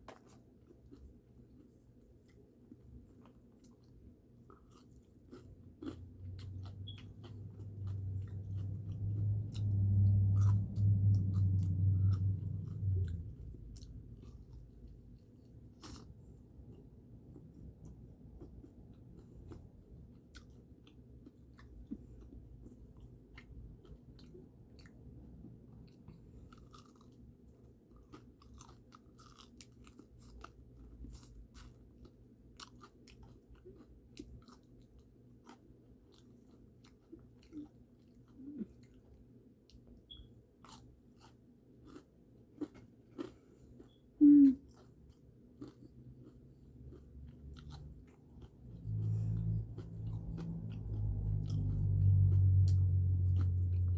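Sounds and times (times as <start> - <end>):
chewing crispy fried chicken: 0.0 - 53.9.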